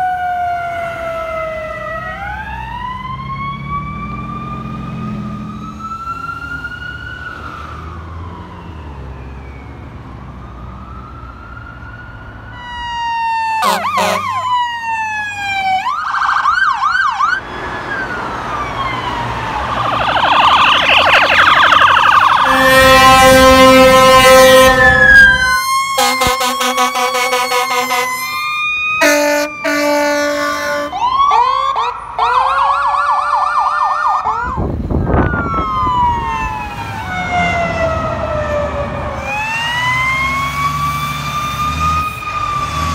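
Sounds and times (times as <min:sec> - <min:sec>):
ambulance siren wailing: 0:00.0 - 0:42.9
fire engine sirens yelping: 0:00.0 - 0:42.9.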